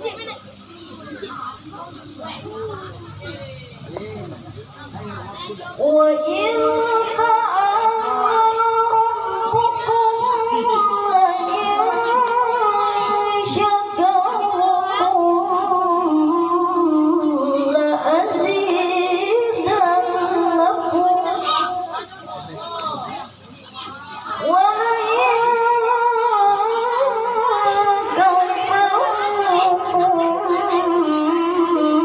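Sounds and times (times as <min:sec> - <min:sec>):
boy reciting melodically: 0:00.0 - 0:32.0.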